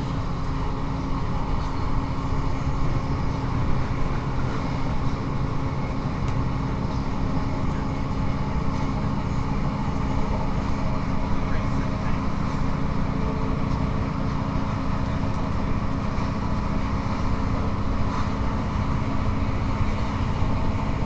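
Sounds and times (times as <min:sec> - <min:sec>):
diesel engine drone: 0:00.0 - 0:21.0
wheel and rail noise: 0:00.0 - 0:21.0.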